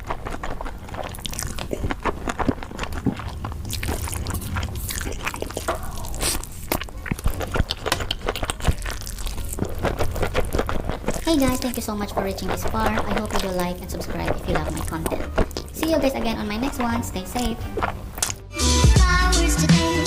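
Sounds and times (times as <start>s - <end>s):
person chewing crunchy food: 0.0s - 18.5s.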